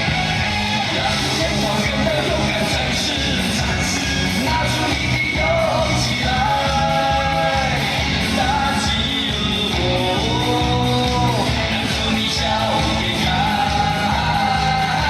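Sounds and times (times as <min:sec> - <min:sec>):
loud rock-pop song: 0:00.0 - 0:15.0.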